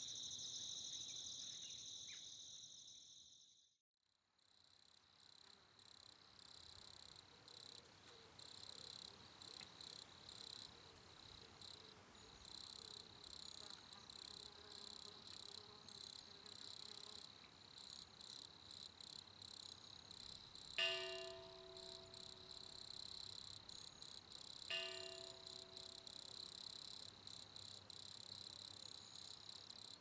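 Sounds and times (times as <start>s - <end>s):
insects chirping: 0.0s - 3.7s, 4.4s - 30.0s.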